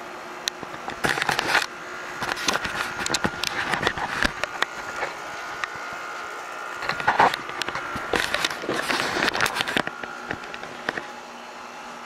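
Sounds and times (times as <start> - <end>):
air conditioner humming: 0.0 - 12.0
clicks crackles and rustles: 0.4 - 11.2.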